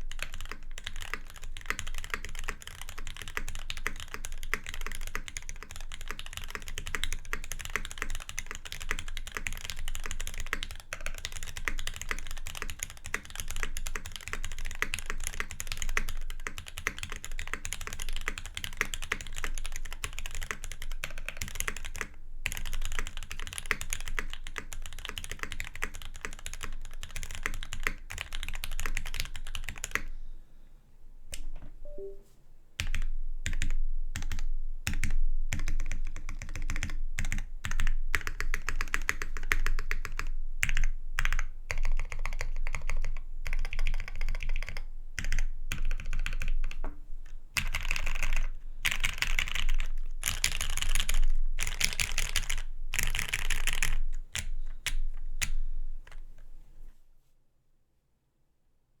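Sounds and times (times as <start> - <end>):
mechanical keyboard typing: 0.0 - 30.1, 32.8 - 46.8, 47.6 - 55.6.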